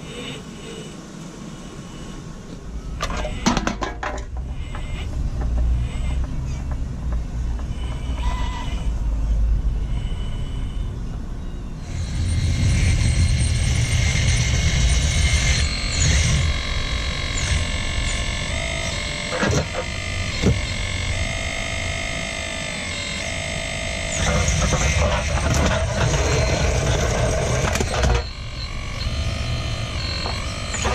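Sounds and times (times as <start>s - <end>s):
electric drive whine: 0.0s - 30.9s
toy excavator low rumble: 2.7s - 30.9s.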